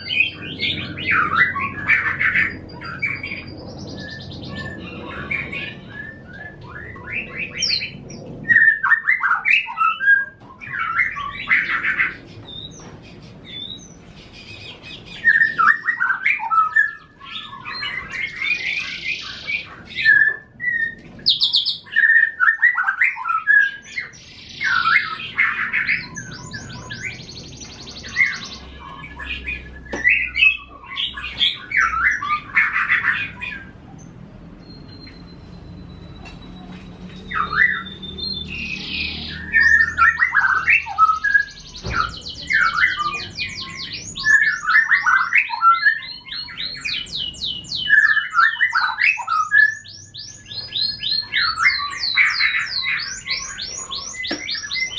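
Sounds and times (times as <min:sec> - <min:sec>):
songbirds singing trills: 0:00.0 - 0:54.9.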